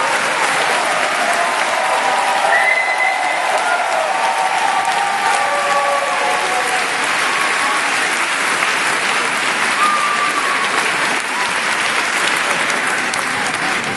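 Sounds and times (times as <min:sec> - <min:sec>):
crowd applause: 0:00.0 - 0:13.9.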